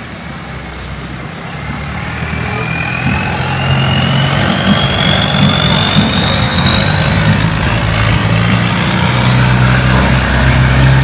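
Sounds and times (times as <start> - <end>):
boat engine passing: 0.0 - 11.0
thin whine rising in pitch: 1.2 - 11.0.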